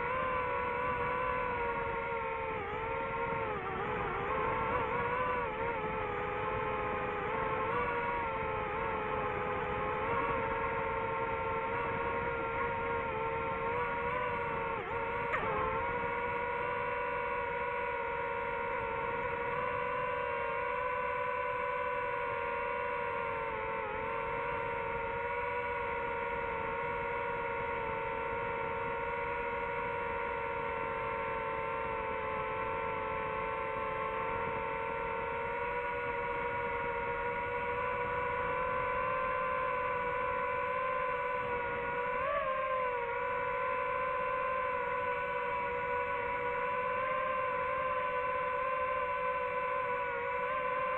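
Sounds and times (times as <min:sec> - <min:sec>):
drone propellers whining: 0:00.0 - 0:50.9.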